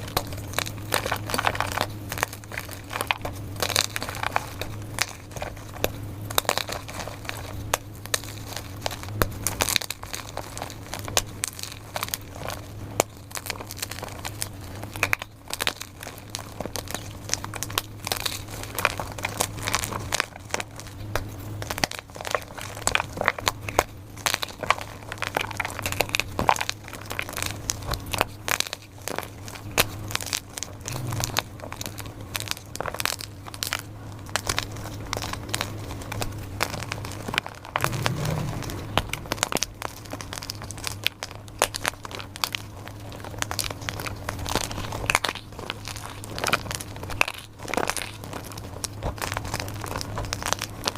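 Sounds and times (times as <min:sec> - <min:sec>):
chalk being crushed: 0:00.0 - 0:50.9.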